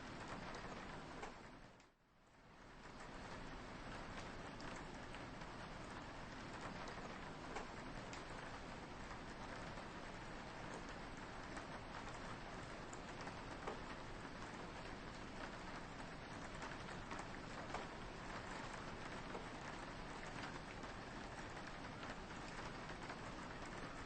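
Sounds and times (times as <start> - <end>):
rain on a window: 0.0 - 24.0.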